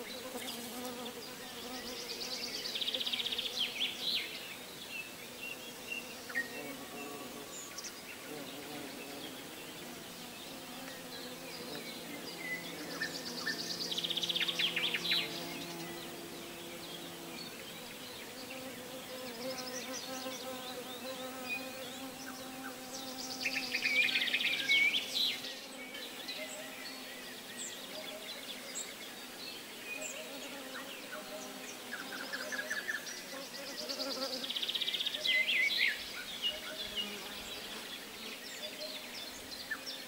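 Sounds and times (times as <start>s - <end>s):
insect buzzing: 0.0s - 29.4s, 30.0s - 40.0s.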